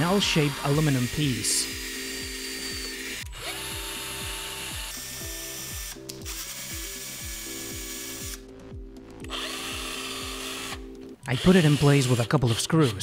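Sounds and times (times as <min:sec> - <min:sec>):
electric drill boring metal: 0:00.0 - 0:08.4, 0:09.2 - 0:13.0
background music with steady beat: 0:00.0 - 0:13.0.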